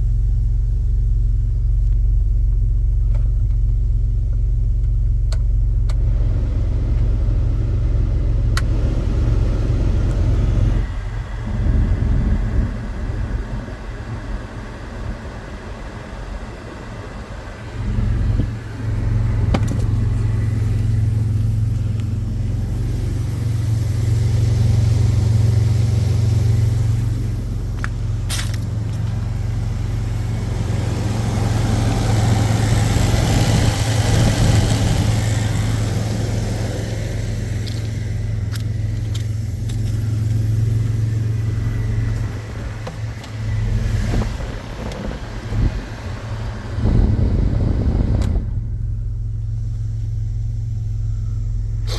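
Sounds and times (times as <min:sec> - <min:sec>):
car engine droning: 0:00.0 - 0:51.9.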